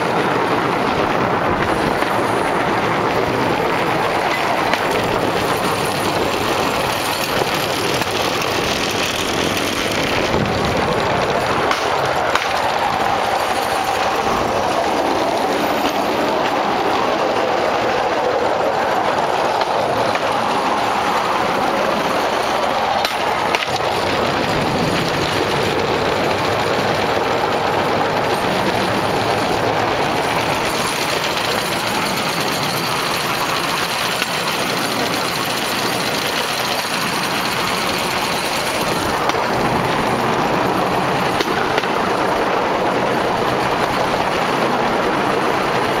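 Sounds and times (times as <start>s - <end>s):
rail vehicle motor and wheels rattling: 0.0s - 46.0s
wheels clacking on track: 0.0s - 46.0s.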